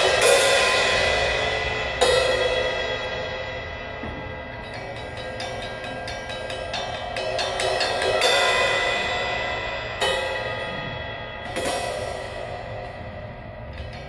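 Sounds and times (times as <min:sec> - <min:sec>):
cymbal crashes: 0:00.0 - 0:14.0.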